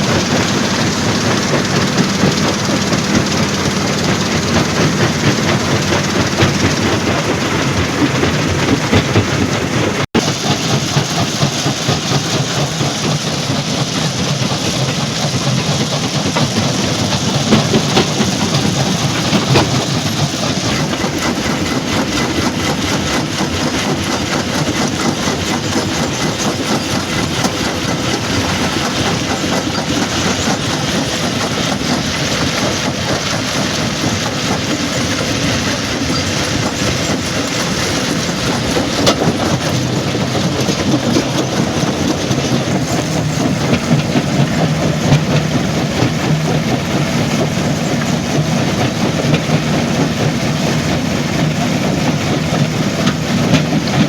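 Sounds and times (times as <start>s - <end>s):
clatter of rock and metal: 0.0s - 54.0s
low engine rumble: 0.0s - 54.0s.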